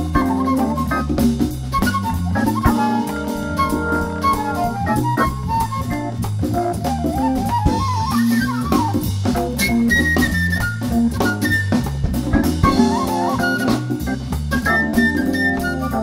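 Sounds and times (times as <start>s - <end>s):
soul-jazz organ combo: 0.0s - 16.0s.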